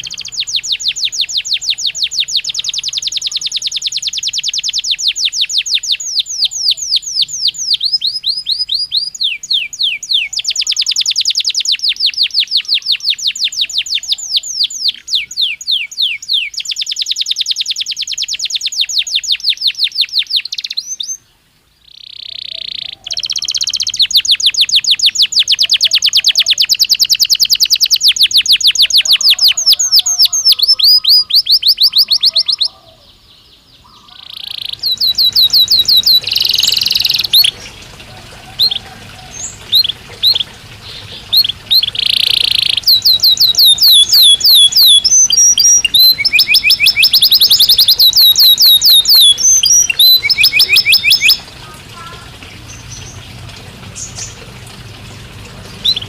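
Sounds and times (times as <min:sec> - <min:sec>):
canary trilling: 0:00.0 - 0:21.2, 0:21.9 - 0:53.2.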